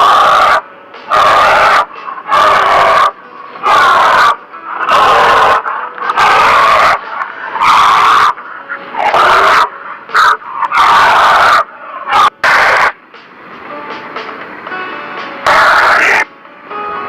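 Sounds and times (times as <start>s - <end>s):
bear growling: 0.0s - 13.0s, 15.5s - 16.3s.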